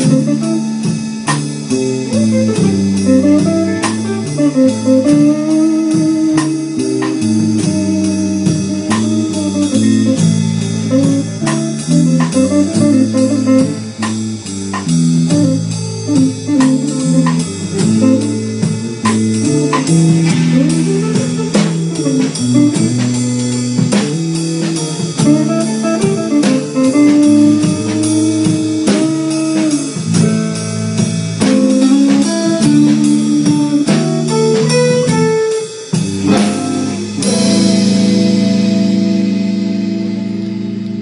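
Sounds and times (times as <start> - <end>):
drum kit: 0.0 - 41.0
electric bass: 0.0 - 41.0
electric guitars: 0.0 - 41.0
live blues band: 0.0 - 41.0.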